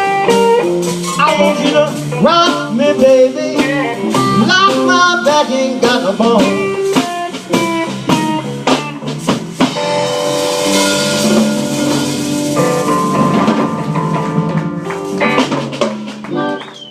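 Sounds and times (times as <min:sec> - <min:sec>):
drum kit hits: 0:00.0 - 0:16.9
live blues band playing: 0:00.0 - 0:16.9.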